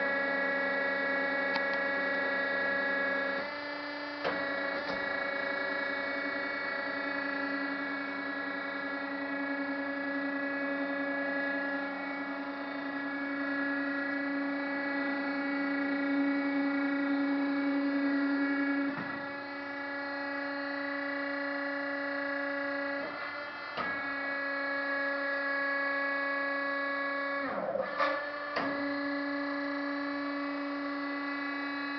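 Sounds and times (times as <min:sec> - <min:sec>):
machine hum and whine: 0:00.0 - 0:31.9.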